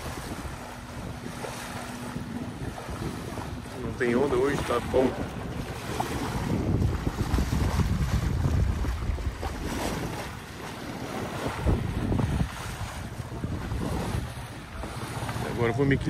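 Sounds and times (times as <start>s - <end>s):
water washing along hull: 0.0s - 16.0s
wind buffeting microphone: 0.0s - 16.0s.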